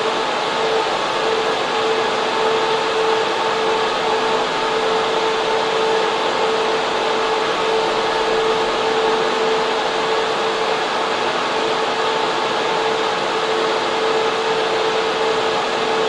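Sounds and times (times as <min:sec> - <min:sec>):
server fans rushing air: 0:00.0 - 0:16.0
steady hum: 0:00.0 - 0:16.0.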